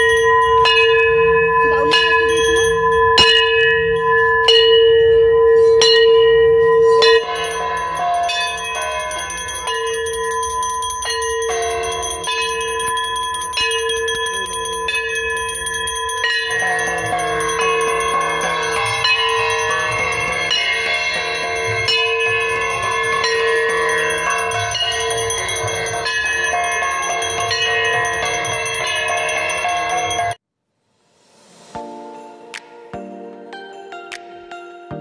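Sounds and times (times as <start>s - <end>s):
metal bells and gongs clanging: 0.0s - 30.4s.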